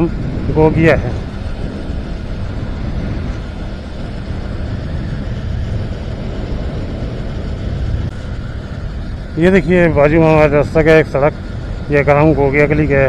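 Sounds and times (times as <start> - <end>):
motorcycle engine: 0.0 - 13.0
wind on microphone: 0.0 - 13.0.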